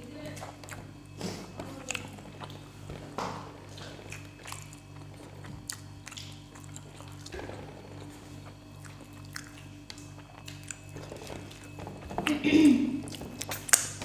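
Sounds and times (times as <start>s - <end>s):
steady low hum: 0.0s - 14.0s
chewing and mouth smacks: 0.3s - 12.3s, 13.0s - 14.0s.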